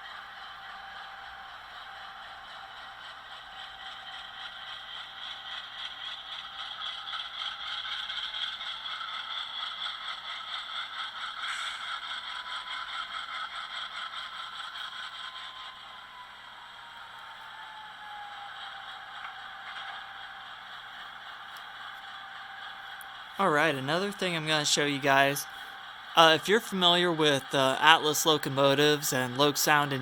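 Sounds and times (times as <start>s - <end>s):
diesel engine sound from small speaker: 0.0s - 30.0s
model train wheel clatter on rails: 0.0s - 30.0s.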